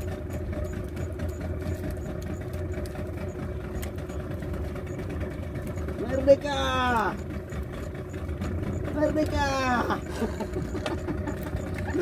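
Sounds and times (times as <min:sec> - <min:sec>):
boat engine humming: 0:00.0 - 0:12.0
faint regular ticking: 0:00.0 - 0:12.0.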